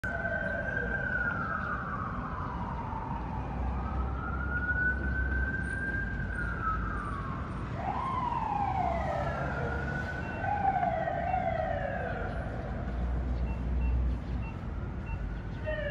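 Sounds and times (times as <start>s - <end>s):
fire engine siren wailing: 0.0s - 15.9s
low rumble of city traffic: 0.0s - 15.9s.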